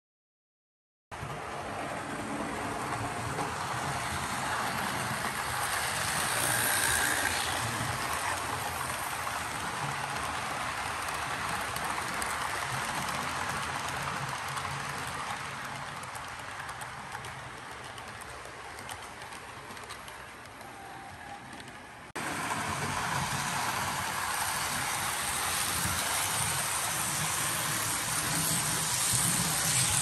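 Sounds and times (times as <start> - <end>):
model train rattling hum: 1.2 - 30.0.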